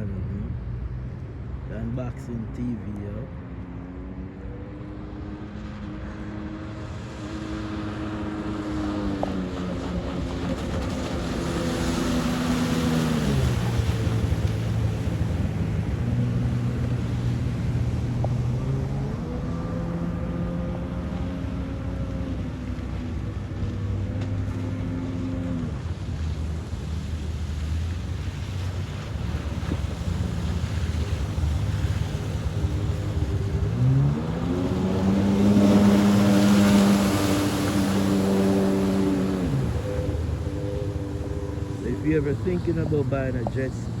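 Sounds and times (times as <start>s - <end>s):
jet ski engine running: 0.0s - 44.0s
rushing water: 0.0s - 44.0s
wind: 0.0s - 44.0s.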